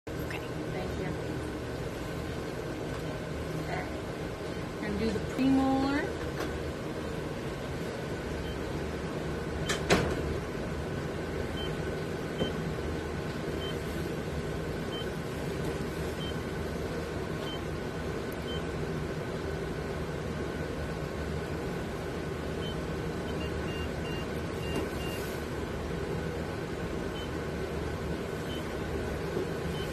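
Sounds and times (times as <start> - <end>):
equipment hum: 0.1 - 29.9.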